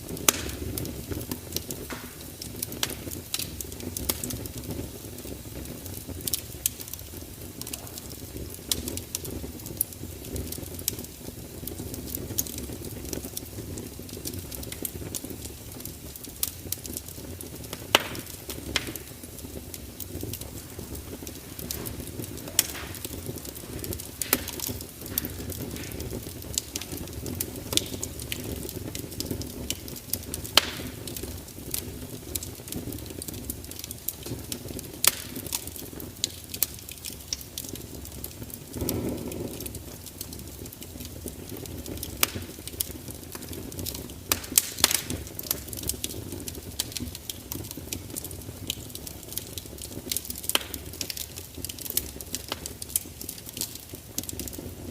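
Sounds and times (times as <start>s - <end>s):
fire crackling: 0.0s - 54.9s
low rumble of flames: 0.0s - 54.9s.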